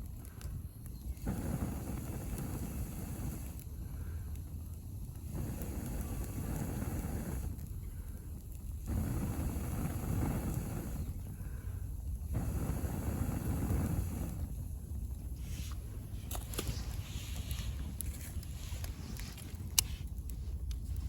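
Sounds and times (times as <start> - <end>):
wood stove fire roaring: 0.0 - 21.0.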